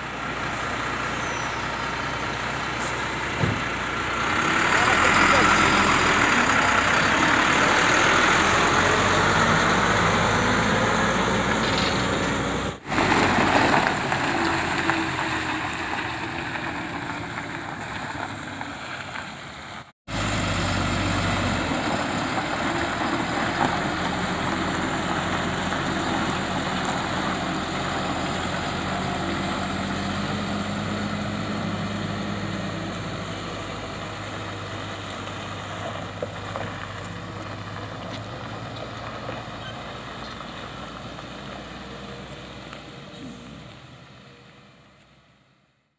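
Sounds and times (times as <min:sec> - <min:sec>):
truck diesel engine pulling away: 0:00.0 - 0:45.5.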